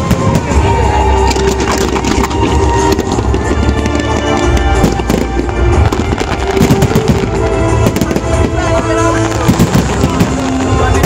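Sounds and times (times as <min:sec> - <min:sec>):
fireworks bursting and crackling: 0:00.0 - 0:11.0
music playing: 0:00.0 - 0:11.0.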